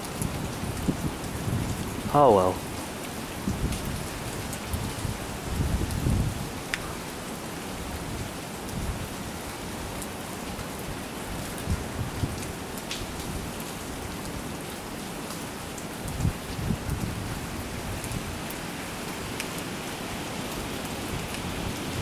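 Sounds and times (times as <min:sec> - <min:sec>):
rain falling steadily: 0:00.0 - 0:22.0.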